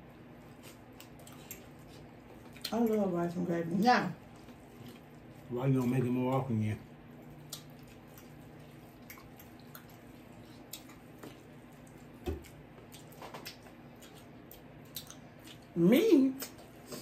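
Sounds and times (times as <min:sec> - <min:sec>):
chewing and mouth clicks: 0:00.4 - 0:03.1, 0:04.3 - 0:15.8.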